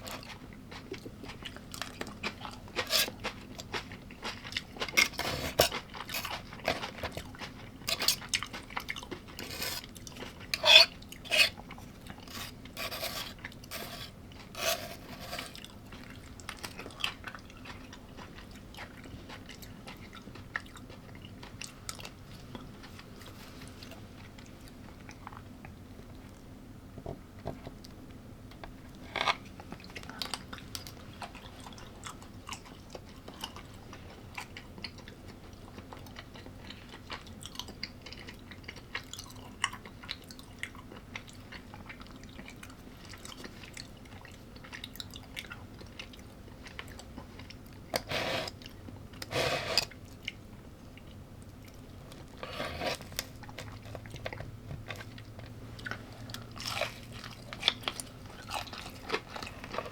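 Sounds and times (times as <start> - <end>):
person chewing food: 0.0 - 26.4, 28.9 - 59.9.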